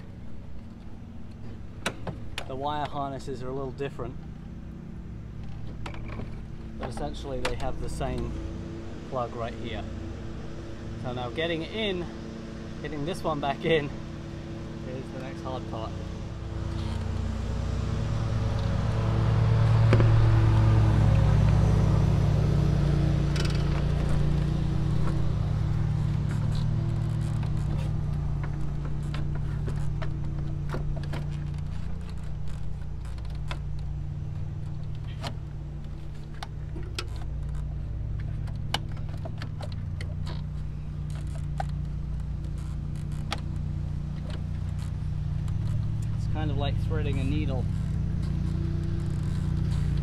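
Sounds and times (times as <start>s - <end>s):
lawnmower engine droning: 0.0s - 50.0s.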